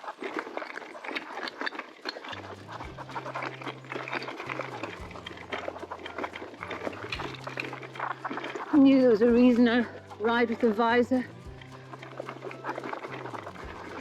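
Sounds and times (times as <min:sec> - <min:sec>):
tyres crackling on stones: 0:00.0 - 0:14.0
vegetation brushing: 0:00.0 - 0:14.0.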